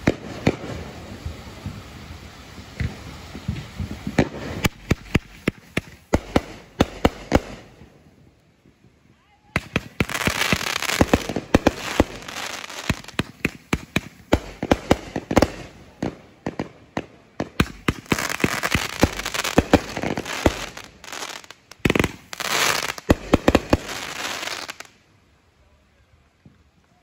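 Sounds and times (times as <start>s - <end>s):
fireworks bangs and crackles: 0.0s - 25.0s
steady hiss: 0.0s - 27.0s.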